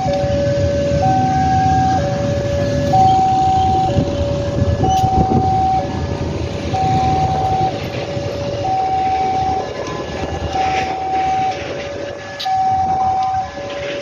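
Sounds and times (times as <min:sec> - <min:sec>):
level crossing two-tone alarm: 0:00.0 - 0:14.0
low rumble of traffic: 0:00.0 - 0:14.0.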